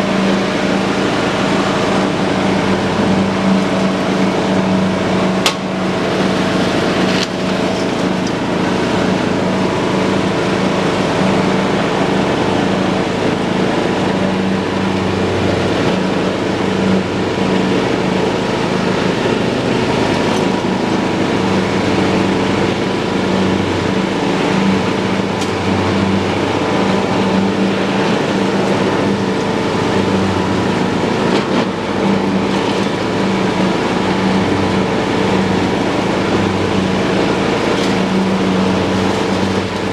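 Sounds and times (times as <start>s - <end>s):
lawn tractor mowing grass: 0.0s - 39.9s.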